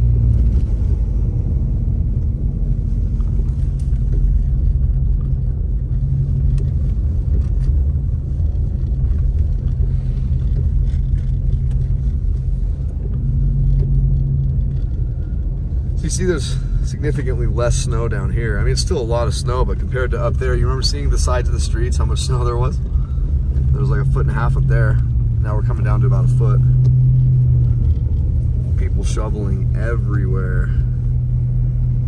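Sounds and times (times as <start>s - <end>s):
car driving through snow: 0.0s - 32.0s.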